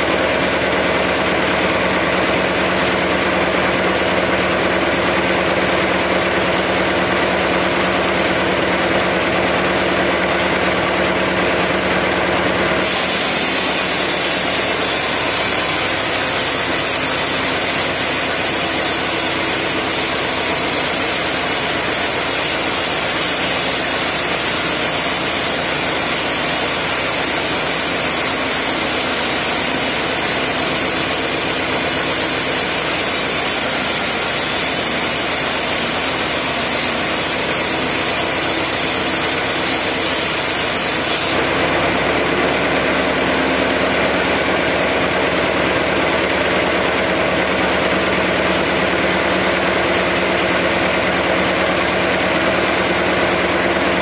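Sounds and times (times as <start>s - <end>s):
band sawmill droning: 0.0s - 54.0s.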